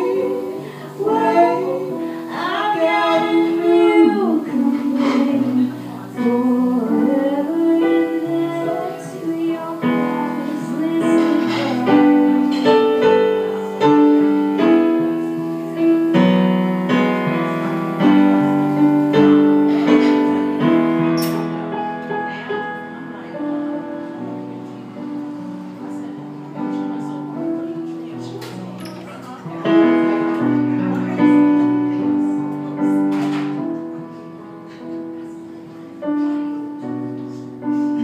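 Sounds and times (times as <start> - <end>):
electric piano chords: 0.0 - 38.0.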